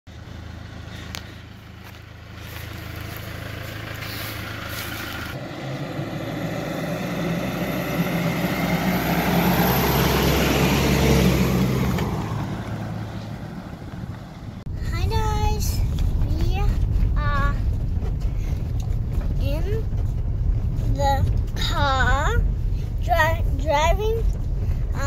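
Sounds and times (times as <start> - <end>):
tyre and road noise: 0.1 - 25.0
vehicle engine running under load: 0.1 - 25.0.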